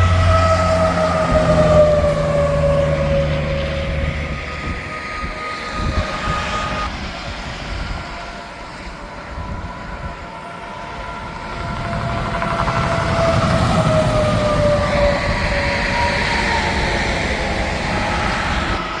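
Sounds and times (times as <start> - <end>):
trucks passing on highway: 0.0 - 19.0.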